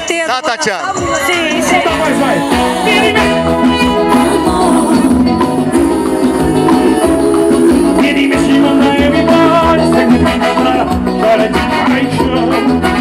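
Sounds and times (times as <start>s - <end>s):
percussion beat: 0.0s - 13.0s
accordion: 0.8s - 13.0s
man singing: 1.2s - 3.6s, 4.2s - 13.0s.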